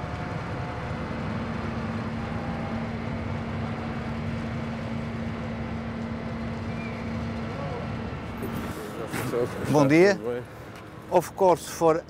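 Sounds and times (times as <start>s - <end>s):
crane machinery rumble: 0.0s - 12.0s
steady mechanical hum: 0.0s - 12.0s.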